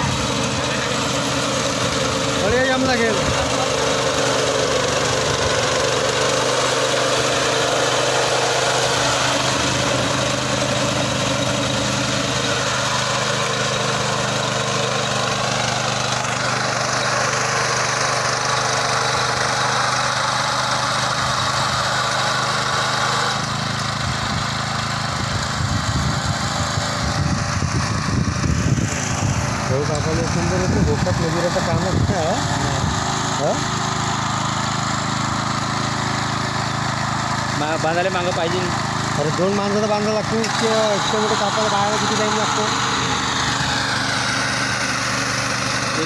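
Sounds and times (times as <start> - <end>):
small petrol engine running: 0.0 - 46.0.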